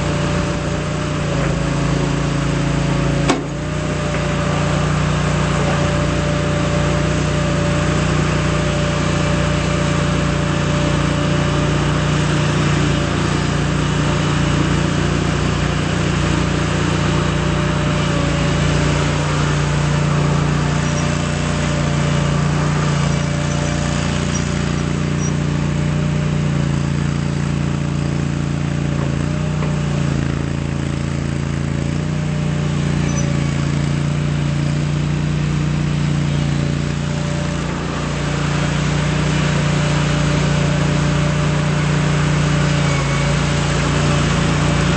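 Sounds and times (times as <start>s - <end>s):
skid steer engine running: 0.0s - 44.9s.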